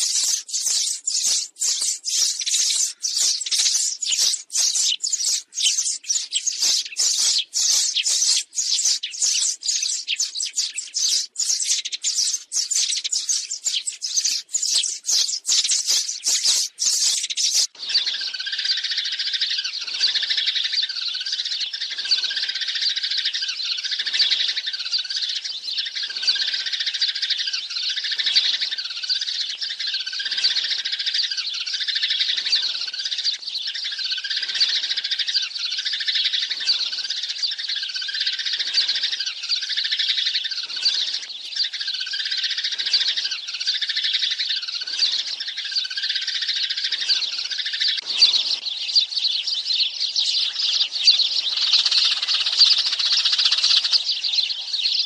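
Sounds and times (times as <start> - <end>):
flock of sparrows chirping: 0.0 - 55.0.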